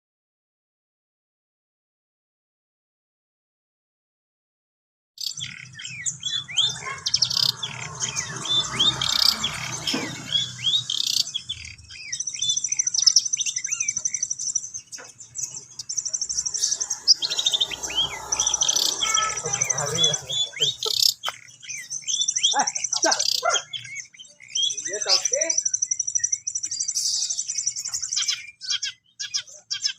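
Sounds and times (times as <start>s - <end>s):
bird singing whistles and trills: 5.2s - 29.9s.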